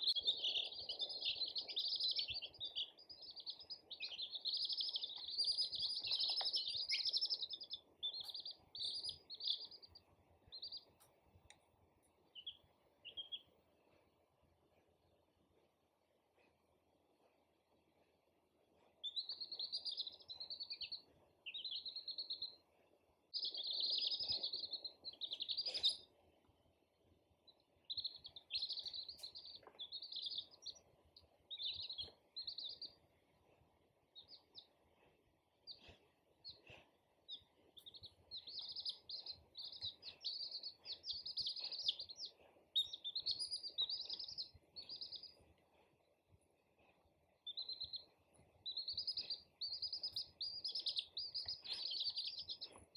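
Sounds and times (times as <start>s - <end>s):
baby chicks peeping: 0.0s - 14.1s, 18.0s - 52.9s.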